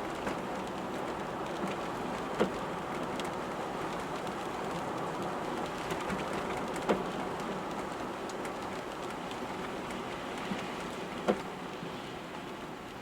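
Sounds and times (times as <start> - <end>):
raindrops tapping on car: 0.1 - 11.8.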